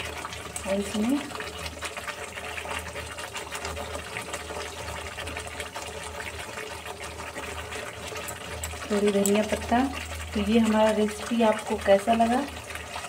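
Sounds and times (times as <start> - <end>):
gravy bubbling and spitting: 0.0 - 13.0.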